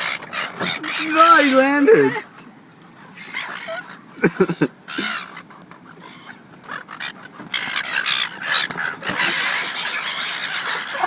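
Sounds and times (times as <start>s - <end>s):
seagulls calling: 0.0s - 11.0s.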